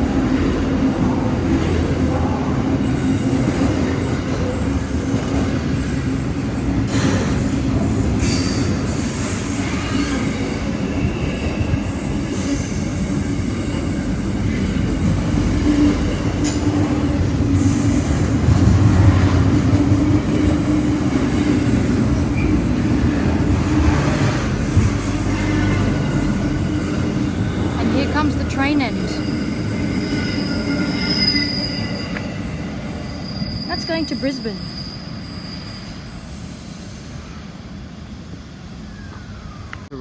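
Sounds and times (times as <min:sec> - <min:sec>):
freight train wagons rolling past: 0:00.0 - 0:39.3.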